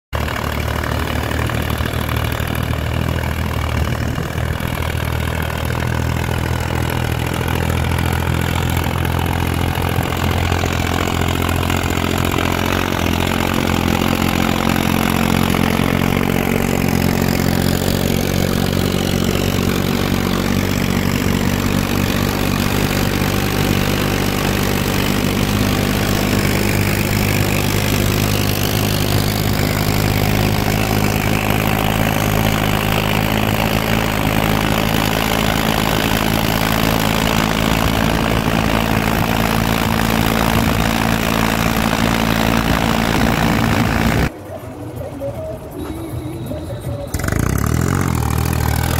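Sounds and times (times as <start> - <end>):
diesel tractor engine: 0.0 - 48.9
tyre and road noise: 0.1 - 48.9.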